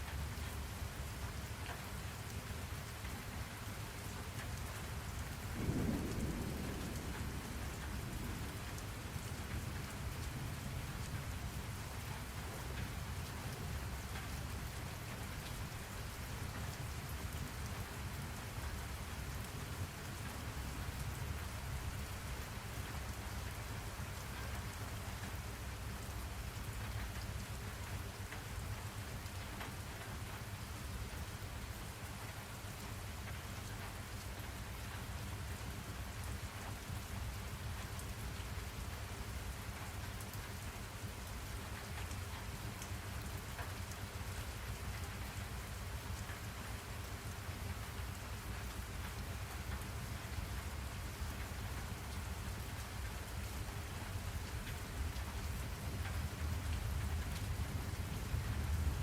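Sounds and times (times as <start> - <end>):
raindrop ticks: 0.0 - 59.0
steady rain falling: 0.0 - 59.0.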